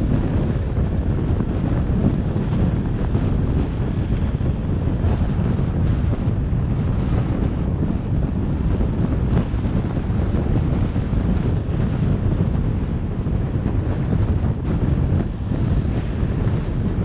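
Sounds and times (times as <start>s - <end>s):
road and engine noise: 0.0s - 17.0s
wind buffeting microphone: 0.0s - 17.0s.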